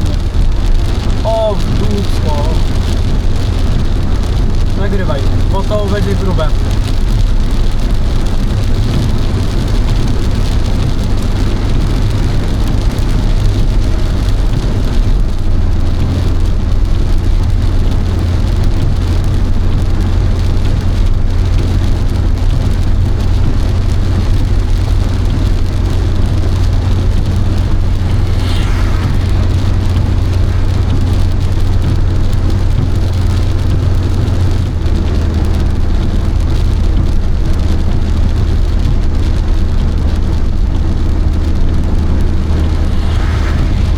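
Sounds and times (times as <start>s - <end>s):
car road noise: 0.0s - 43.9s
rain falling on car: 0.0s - 43.9s
tyre and engine hum: 0.0s - 43.9s.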